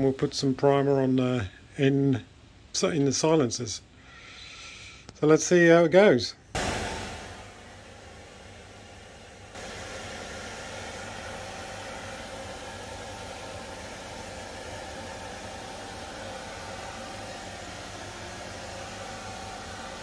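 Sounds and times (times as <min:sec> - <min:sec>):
extraction fans whirring hiss: 0:00.0 - 0:20.0.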